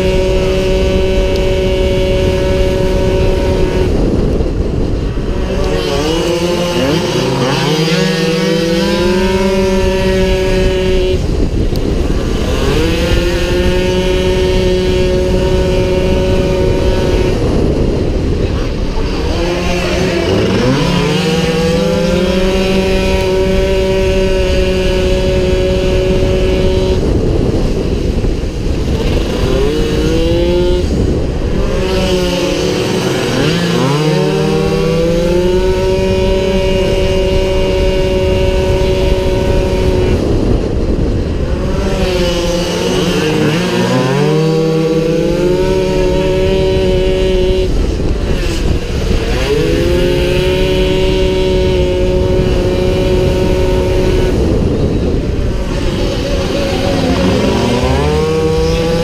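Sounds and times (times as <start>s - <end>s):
scooter engine at high revs: 0.0s - 59.0s.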